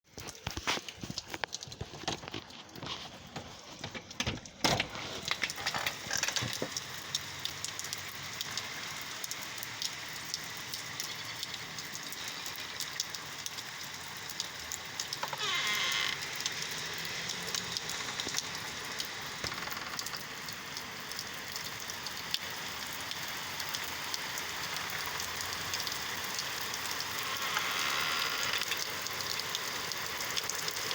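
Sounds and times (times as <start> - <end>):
rain pattering: 0.1 - 30.9.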